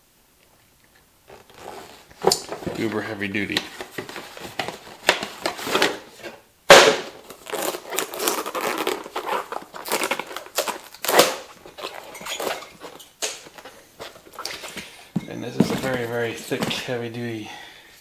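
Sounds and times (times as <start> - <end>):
rubber tube rustling and rubbing: 1.3 - 17.2.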